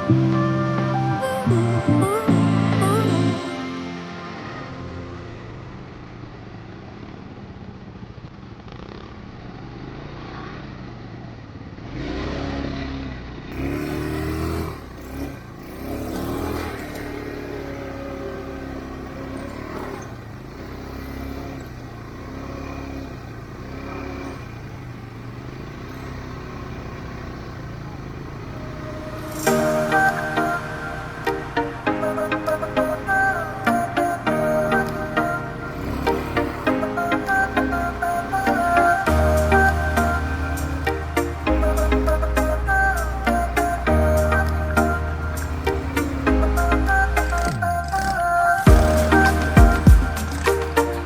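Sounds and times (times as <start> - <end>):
atv engines revving: 0.0 - 6.4, 8.7 - 51.0.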